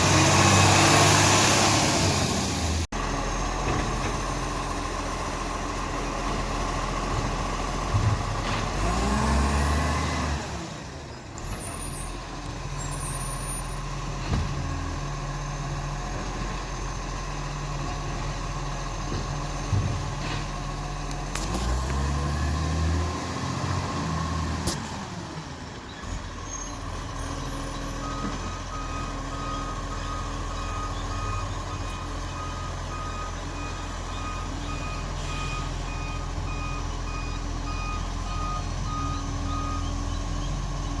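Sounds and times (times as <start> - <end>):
diesel truck engine revving: 0.0 - 11.6, 13.9 - 41.0.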